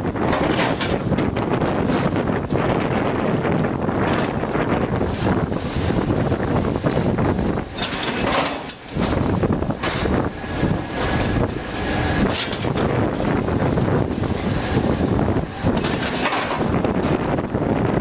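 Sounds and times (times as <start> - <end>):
continuous loud noise: 0.0 - 18.0.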